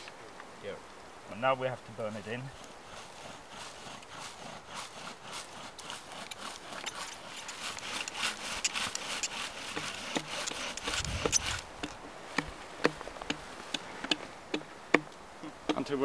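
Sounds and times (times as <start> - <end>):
bow drill rasping: 2.5 - 15.9.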